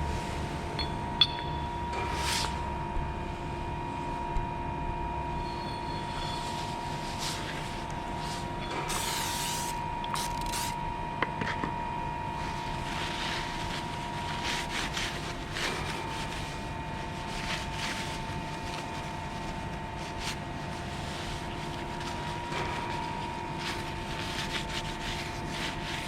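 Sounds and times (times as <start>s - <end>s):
workshop machinery humming: 0.0s - 26.0s.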